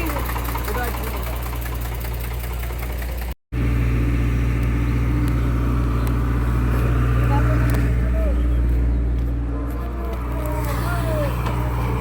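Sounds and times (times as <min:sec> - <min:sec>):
heavy diesel machinery running: 0:00.0 - 0:12.0.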